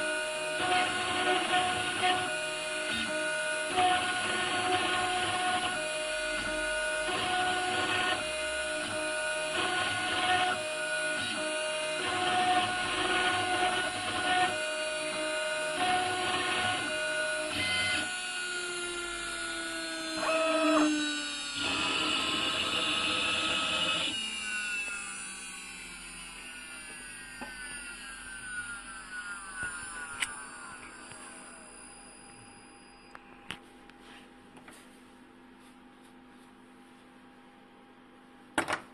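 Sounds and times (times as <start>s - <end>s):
engraving router whining: 0.0s - 34.3s.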